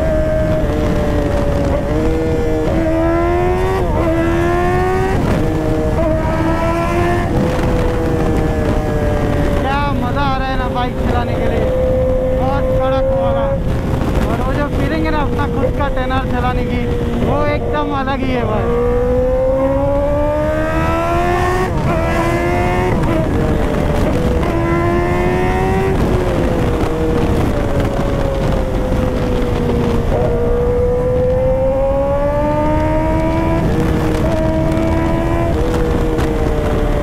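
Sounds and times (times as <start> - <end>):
motorcycle engine accelerating: 0.0 - 37.0
wind rush on microphone: 0.0 - 37.0.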